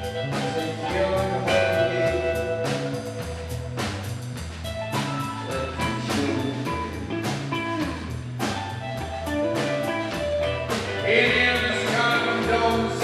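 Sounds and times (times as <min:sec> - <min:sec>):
bass line: 0:00.0 - 0:13.0
drum kit: 0:00.0 - 0:13.0
electric guitar: 0:00.0 - 0:13.0.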